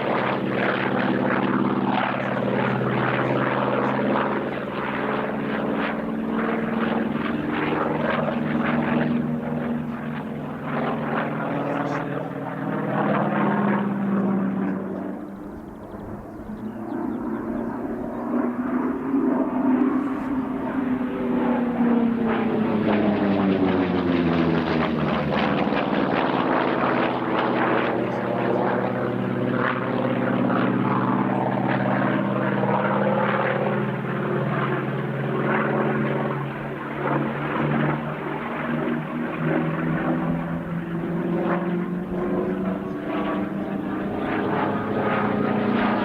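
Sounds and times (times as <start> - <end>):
propeller plane engine droning: 0.0 - 46.0.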